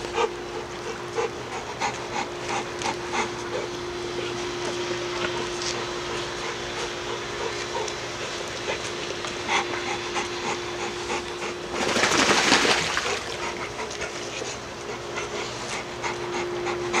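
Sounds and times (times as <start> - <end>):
dog panting: 0.0 - 12.0, 12.9 - 17.0.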